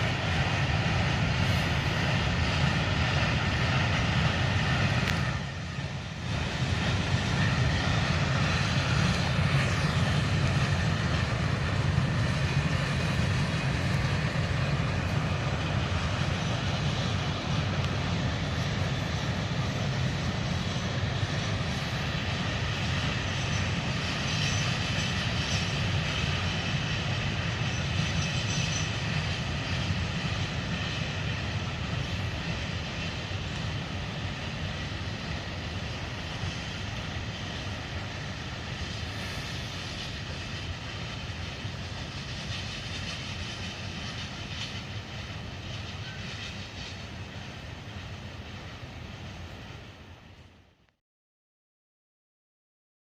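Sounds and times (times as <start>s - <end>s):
freight train wheels rumbling: 0.0s - 50.8s.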